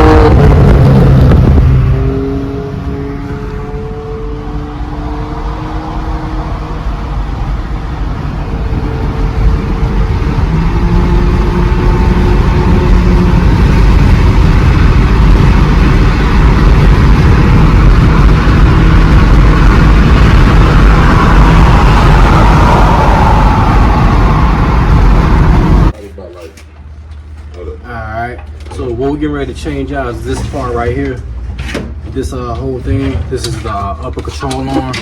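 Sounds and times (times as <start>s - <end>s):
car engine: 0.0s - 35.0s
road noise: 0.0s - 35.0s.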